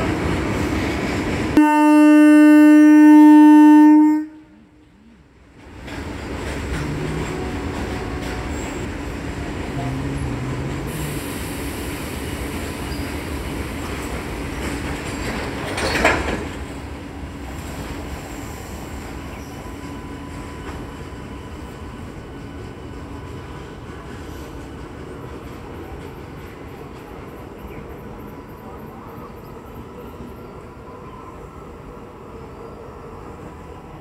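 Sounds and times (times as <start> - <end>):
train mechanical rumble: 0.0 - 34.0.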